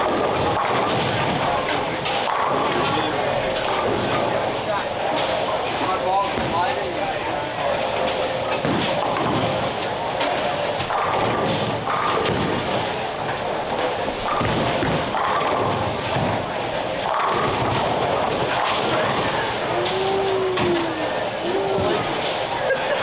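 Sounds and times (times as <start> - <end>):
background chatter: 0.0 - 23.0
bowling balls and pins thudding: 0.0 - 23.0.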